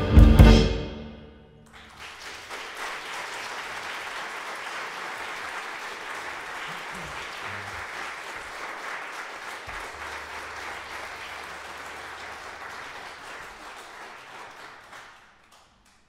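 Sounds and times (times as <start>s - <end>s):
audience applauding: 1.7s - 16.0s.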